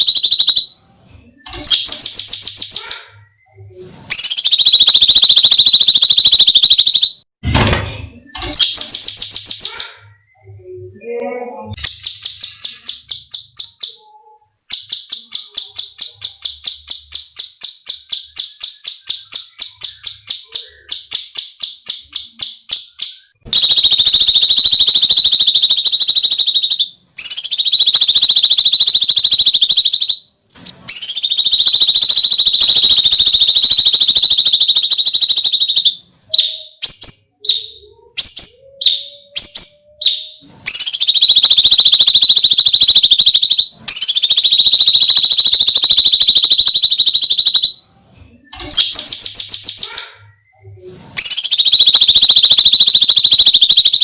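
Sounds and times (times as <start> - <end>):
bird rapid repeated notes: 0.0 - 3.4, 4.1 - 10.2, 11.7 - 14.0, 14.7 - 47.8, 48.4 - 50.2, 51.2 - 54.0.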